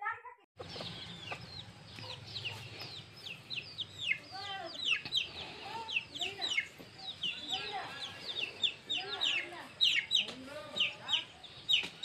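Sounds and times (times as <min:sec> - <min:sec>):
chickens calling: 0:00.6 - 0:12.0
chicks peeping: 0:00.6 - 0:12.0.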